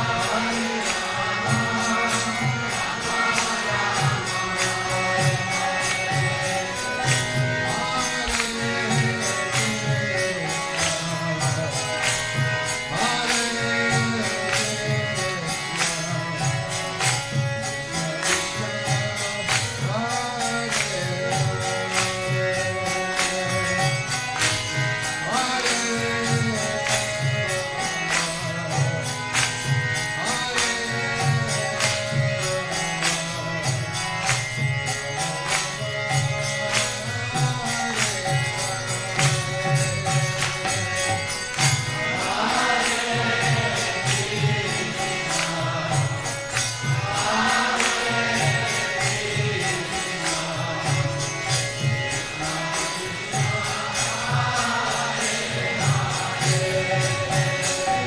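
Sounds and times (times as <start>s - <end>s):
jingling percussion strikes: 0.0s - 58.0s
voices singing a mantra: 0.0s - 58.0s.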